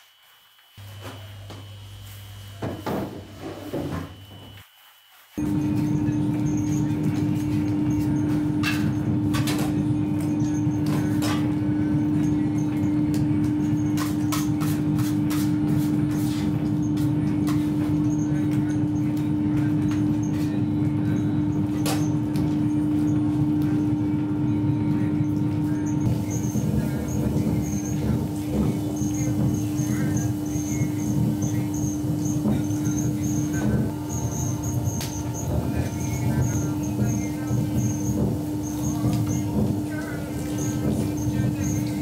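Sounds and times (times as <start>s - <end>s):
machine hum: 5.4s - 42.0s.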